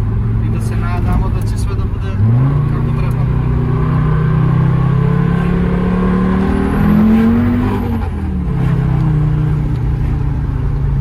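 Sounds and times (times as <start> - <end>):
diesel car engine revving: 0.0 - 11.0.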